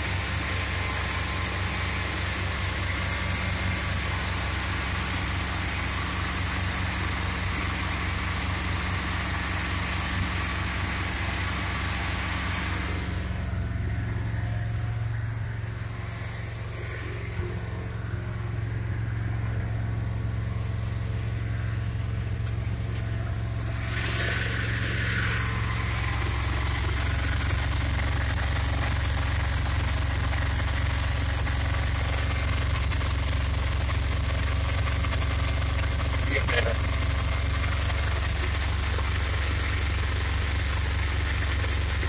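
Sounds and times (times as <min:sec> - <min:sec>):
van engine idling: 0:00.0 - 0:42.0.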